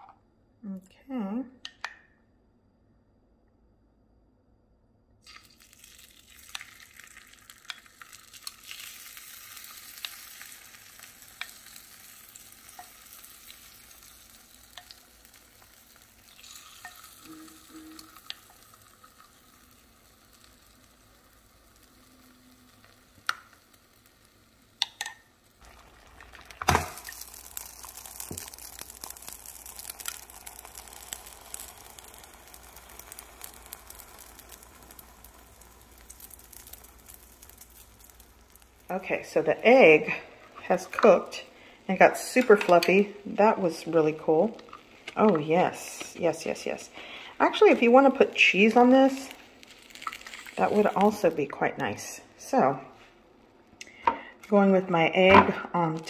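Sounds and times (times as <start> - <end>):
egg sizzling on a waffle maker: 5.2 - 53.1.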